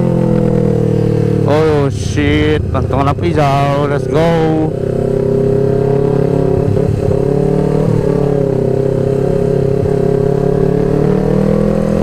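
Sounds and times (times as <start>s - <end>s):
motorcycle with racing exhaust: 0.0s - 12.0s.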